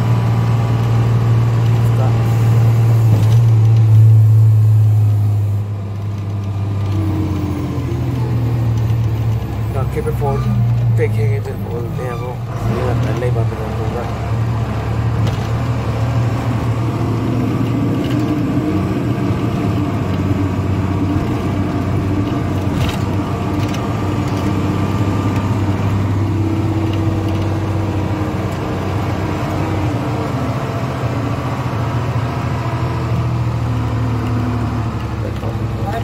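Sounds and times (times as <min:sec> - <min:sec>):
diesel truck engine droning: 0:00.0 - 0:36.0.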